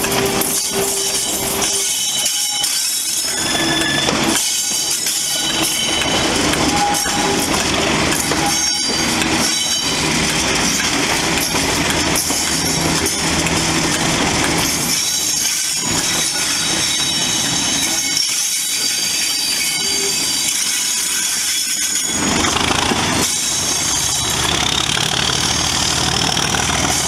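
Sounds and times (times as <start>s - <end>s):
diesel locomotive engine working hard: 0.0s - 27.0s
train wheels on rails: 0.0s - 27.0s.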